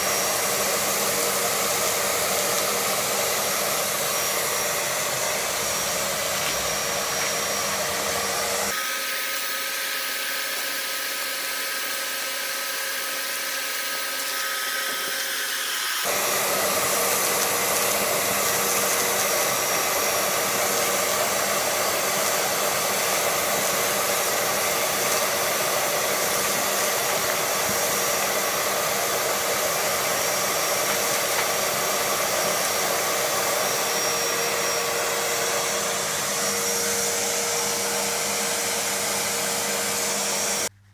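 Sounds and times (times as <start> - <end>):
shop vacuum running: 0.0 - 40.9
vacuum whine: 0.0 - 40.9.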